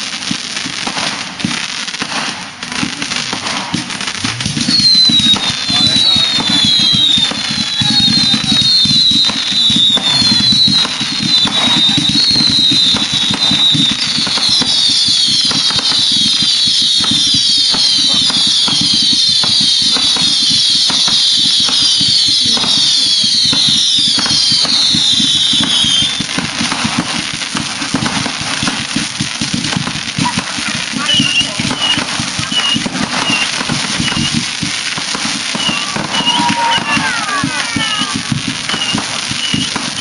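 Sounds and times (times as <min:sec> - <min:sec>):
firework bangs and crackling: 0:00.0 - 0:40.0
whistling fireworks: 0:00.0 - 0:40.0.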